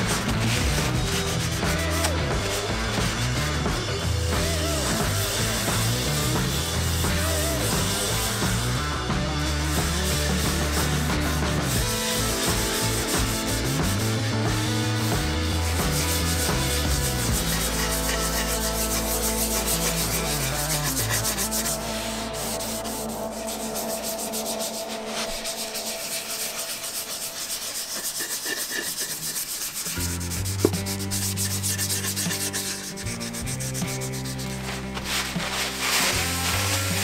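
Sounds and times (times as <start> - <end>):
pad rubbing on wood: 0.0 - 3.8, 4.4 - 37.0
low background music: 0.0 - 37.0.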